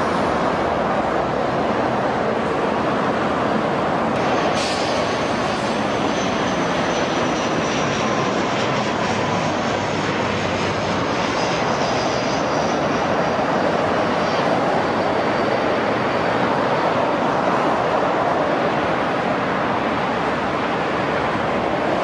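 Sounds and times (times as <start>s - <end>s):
distant jet engines roaring: 0.0s - 22.0s
high engine whine: 0.0s - 22.0s.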